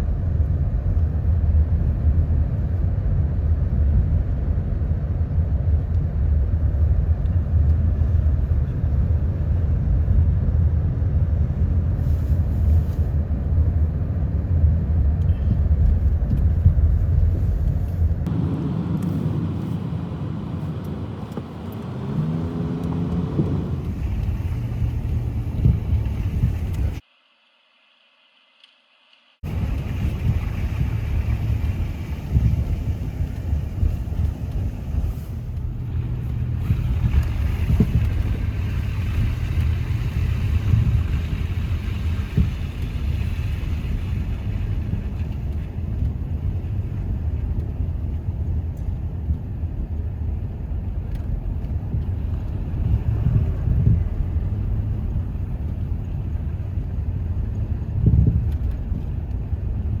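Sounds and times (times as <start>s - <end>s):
car driving on road: 0.0s - 27.1s, 28.3s - 60.0s.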